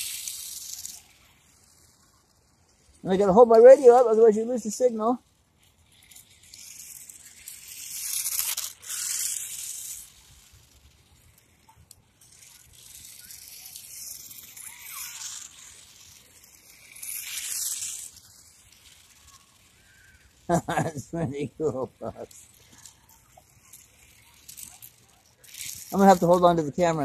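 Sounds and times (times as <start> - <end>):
rc truck motor whirring: 0.0 - 27.0.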